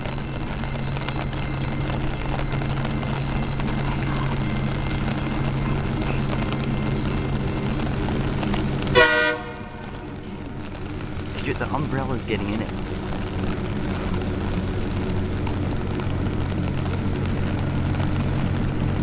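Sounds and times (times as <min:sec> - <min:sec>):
engine drone: 0:00.0 - 0:19.0
grinding stones rushing on rail: 0:00.0 - 0:19.0.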